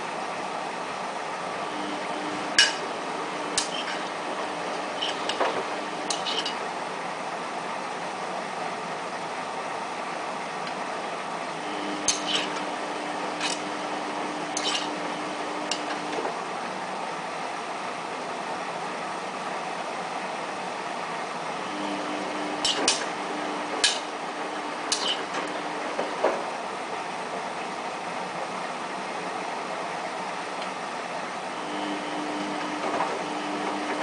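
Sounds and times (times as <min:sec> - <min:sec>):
washing machine drum motor humming: 0:00.0 - 0:18.8, 0:19.8 - 0:34.0.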